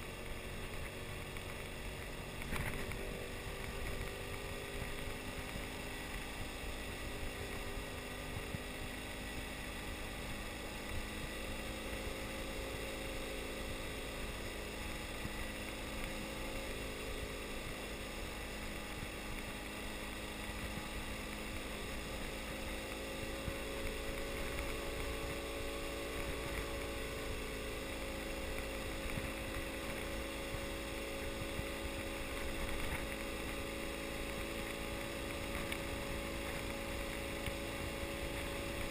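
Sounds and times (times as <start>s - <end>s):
motorcycle engine running: 0.0s - 38.9s
tyre noise on dirt road: 0.0s - 38.9s.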